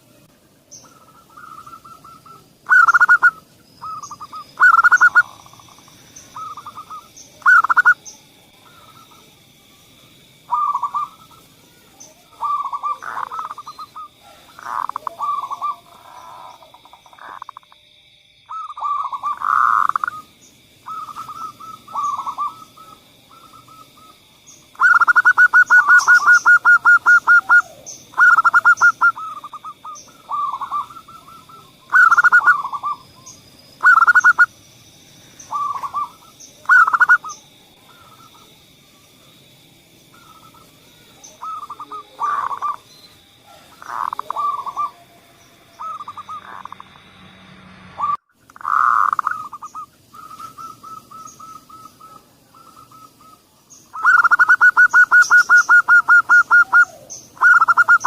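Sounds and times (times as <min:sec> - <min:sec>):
dove cooing: 0:00.7 - 0:09.7, 0:10.3 - 0:17.6, 0:18.5 - 0:34.5, 0:35.4 - 0:38.6, 0:40.1 - 0:46.9, 0:47.9 - 0:58.0.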